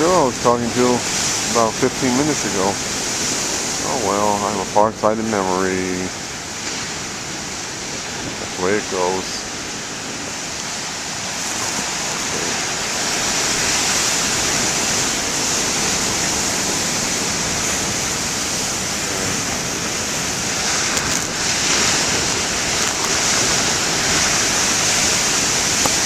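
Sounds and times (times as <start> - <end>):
heavy ocean surf breaking: 0.0 - 26.0.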